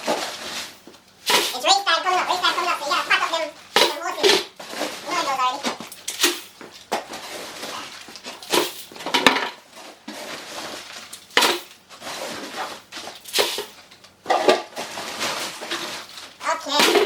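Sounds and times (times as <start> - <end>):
plastic scoop clattering: 0.0 - 17.0.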